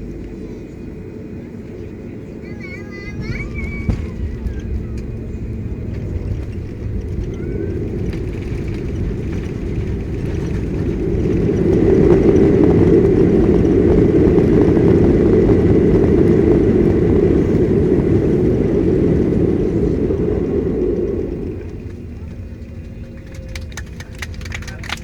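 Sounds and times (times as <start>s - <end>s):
low rumble of engines and runway: 0.0s - 25.0s.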